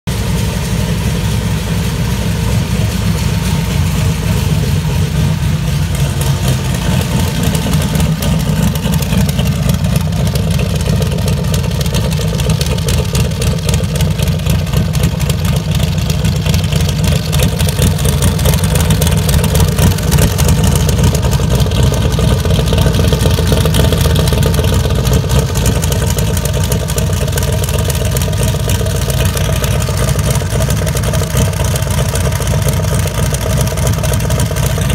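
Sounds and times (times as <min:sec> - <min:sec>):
unmuffled engine idling: 0:00.0 - 0:34.9.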